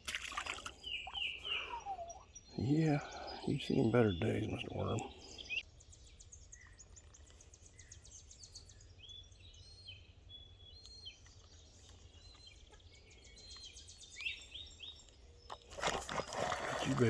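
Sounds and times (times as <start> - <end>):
birds chirping and whistling: 0.8 - 17.0.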